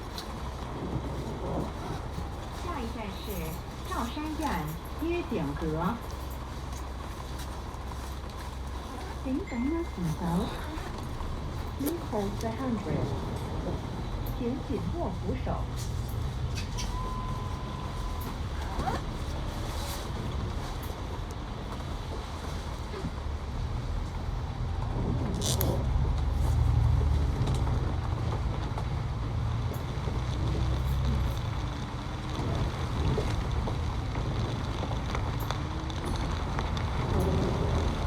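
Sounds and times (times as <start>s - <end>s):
vehicle engine rumbling: 0.0s - 38.0s.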